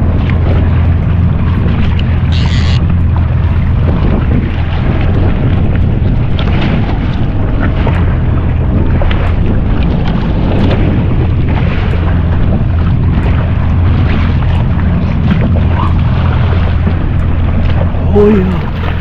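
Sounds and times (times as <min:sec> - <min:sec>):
jet ski engine droning: 0:00.0 - 0:19.0
wind and water noise: 0:00.0 - 0:19.0.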